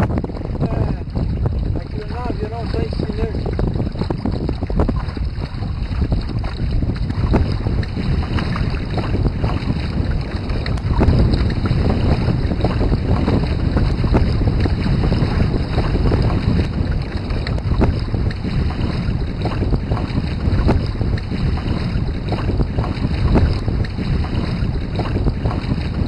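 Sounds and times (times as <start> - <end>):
water rushing past hulls: 0.0 - 26.0
wind buffeting microphone: 0.0 - 26.0.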